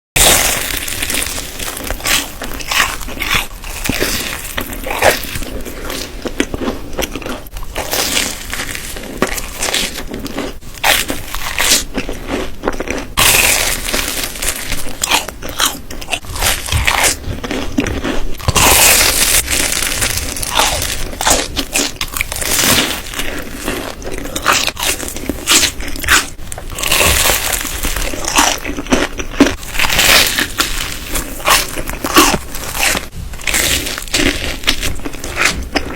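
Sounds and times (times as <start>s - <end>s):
crunchy biting and chewing: 0.2s - 35.9s.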